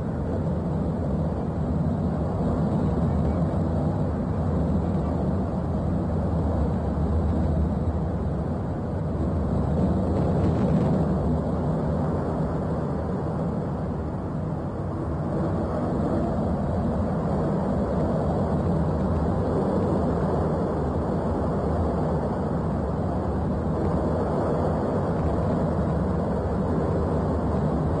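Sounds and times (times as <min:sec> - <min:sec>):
volcanic eruption roaring: 0:00.0 - 0:28.0.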